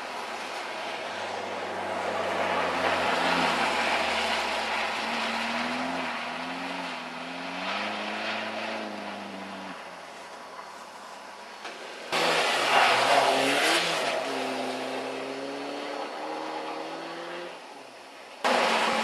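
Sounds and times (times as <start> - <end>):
car engines revving: 0.0 - 10.0, 12.1 - 19.0
tyres rushing through snow: 0.0 - 17.3, 18.4 - 19.0.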